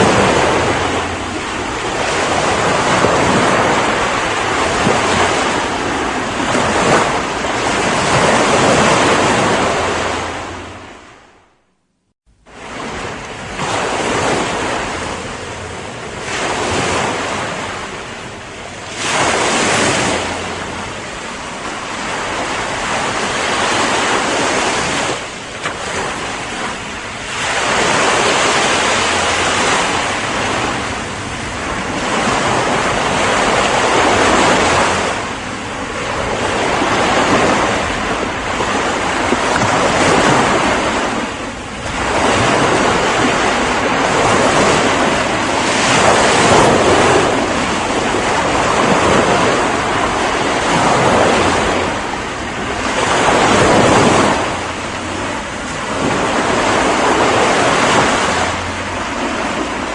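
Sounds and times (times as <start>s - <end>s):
ocean waves breaking: 0.0s - 11.7s, 12.3s - 59.9s.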